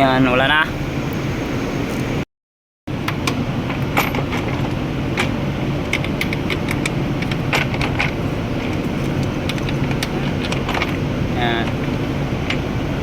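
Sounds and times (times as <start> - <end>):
steady low hum: 0.0 - 2.3, 2.9 - 13.0.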